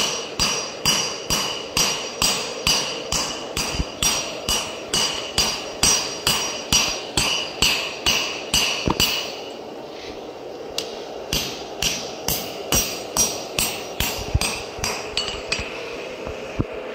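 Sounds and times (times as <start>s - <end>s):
hammer striking metal on anvil: 0.0s - 9.5s, 11.3s - 15.7s.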